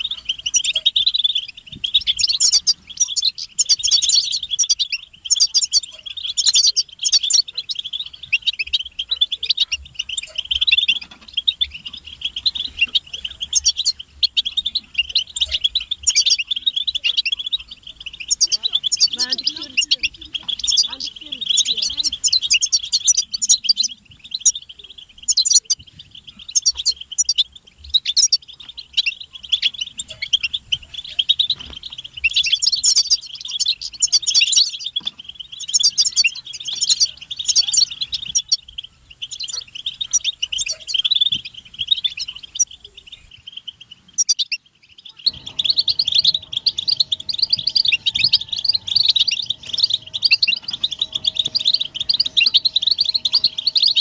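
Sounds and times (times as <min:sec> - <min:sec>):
goldfinches twittering: 0:00.0 - 0:54.0.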